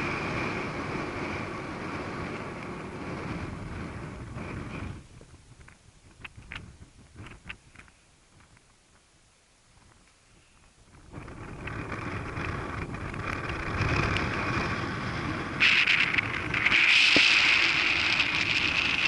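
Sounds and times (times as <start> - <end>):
wind buffeting microphone: 0.0 - 8.7, 9.7 - 19.0.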